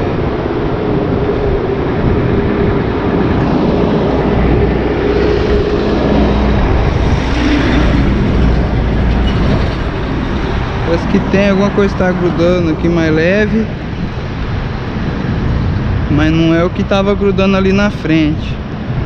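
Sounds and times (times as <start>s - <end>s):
traffic rumble on bridge: 0.0s - 19.0s.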